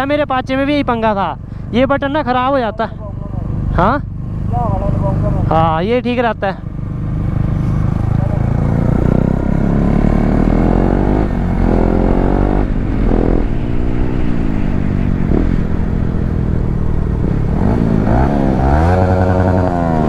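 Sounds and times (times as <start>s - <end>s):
motorcycle engine revving: 2.1s - 20.0s.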